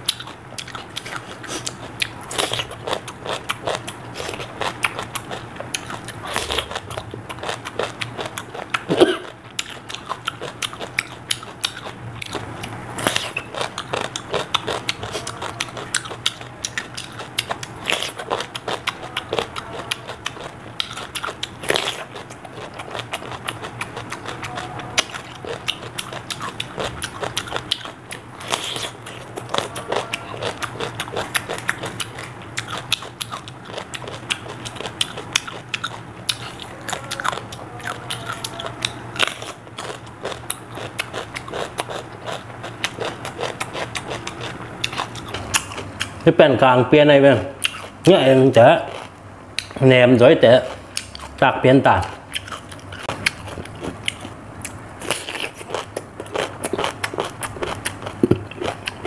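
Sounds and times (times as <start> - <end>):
chewing crunchy cucumber: 0.0 - 59.0.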